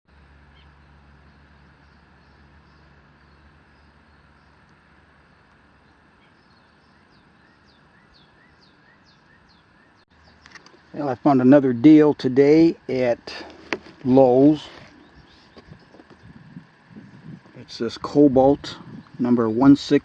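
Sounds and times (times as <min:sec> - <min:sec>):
low hum: 0:00.1 - 0:20.0
bird chirping: 0:00.4 - 0:12.4, 0:13.9 - 0:20.0.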